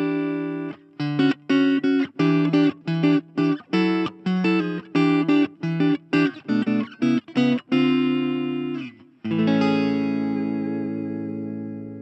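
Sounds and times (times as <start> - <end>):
clean electric guitar chords: 0.0 - 12.0.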